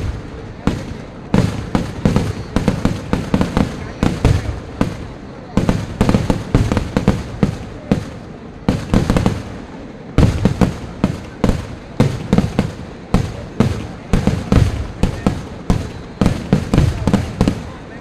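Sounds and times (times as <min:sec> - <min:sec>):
fireworks bangs with rumbling echo: 0:00.0 - 0:18.0.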